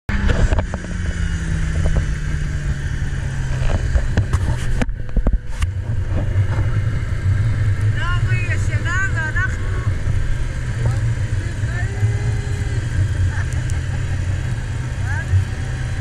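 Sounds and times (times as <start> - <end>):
snowmobile engine running: 0.1 - 16.0.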